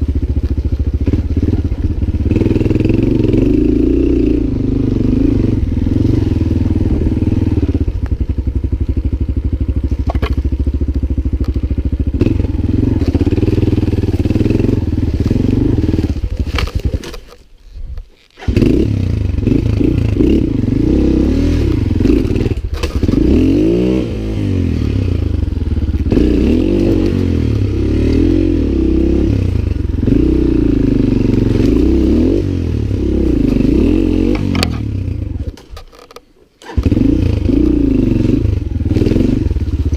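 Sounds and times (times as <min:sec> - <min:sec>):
motorcycle engine revving: 0:00.0 - 0:17.4, 0:18.3 - 0:39.9.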